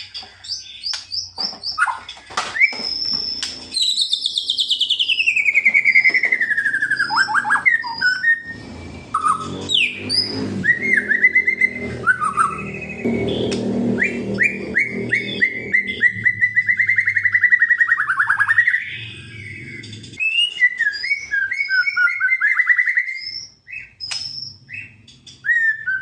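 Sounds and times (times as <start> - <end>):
bird whistles and chirps: 0.0 - 26.0.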